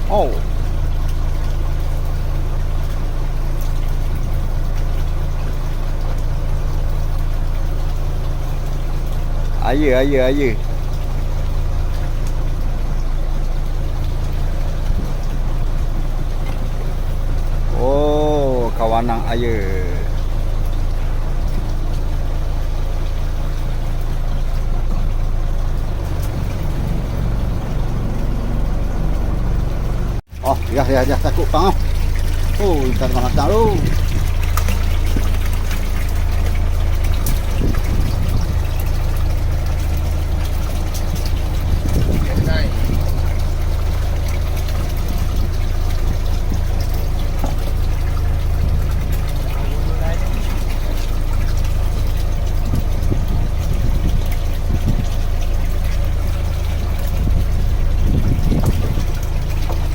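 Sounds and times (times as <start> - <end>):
boat engine idling: 0.0 - 59.9.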